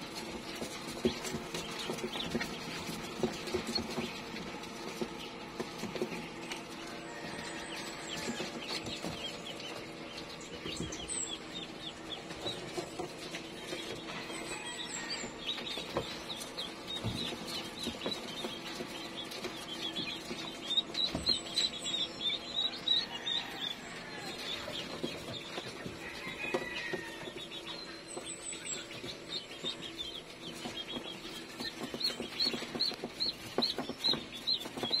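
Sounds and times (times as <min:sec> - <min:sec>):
poultry clucking: 0:00.0 - 0:35.0
birds chirping: 0:00.1 - 0:35.0.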